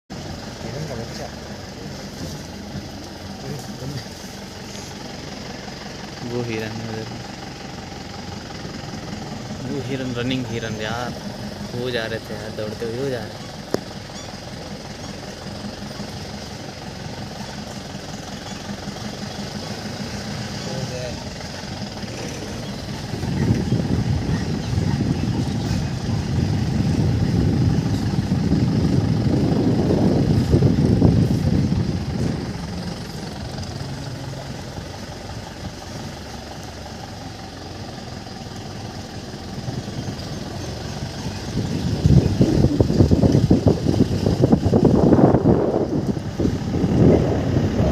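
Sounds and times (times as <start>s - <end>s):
vehicle engine idling: 0.1s - 47.9s.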